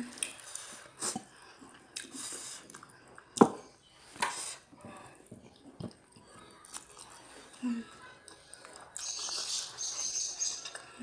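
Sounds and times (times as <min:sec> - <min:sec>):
wet chewing and mouth noises: 0:00.0 - 0:03.5, 0:04.3 - 0:11.0.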